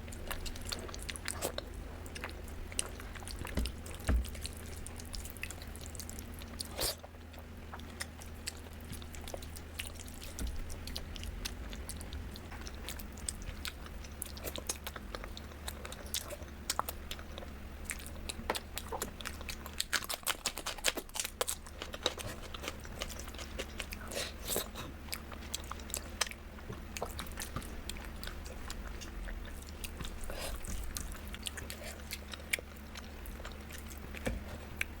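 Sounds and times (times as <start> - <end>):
person chewing crunchy food: 0.0 - 35.0.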